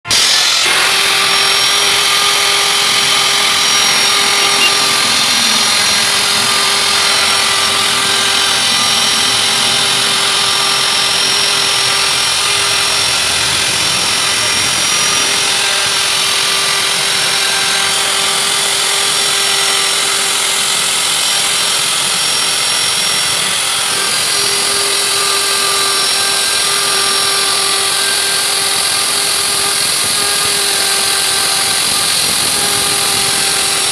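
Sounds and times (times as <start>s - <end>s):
electric router whining: 0.0s - 33.9s.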